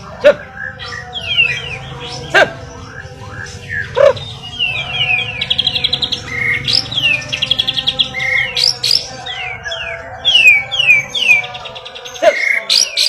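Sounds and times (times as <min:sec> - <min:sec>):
bird singing whistles and trills: 0:00.4 - 0:13.0.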